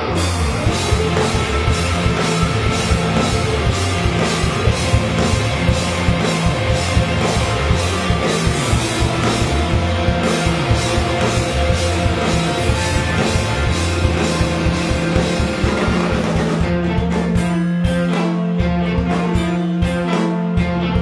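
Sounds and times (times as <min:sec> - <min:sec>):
distorted electric guitars: 0:00.0 - 0:21.0
drum kit beat: 0:00.0 - 0:21.0.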